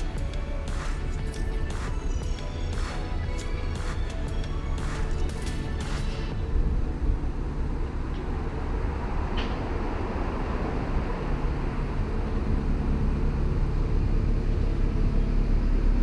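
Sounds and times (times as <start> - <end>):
boat engine low hum: 0.0 - 16.0.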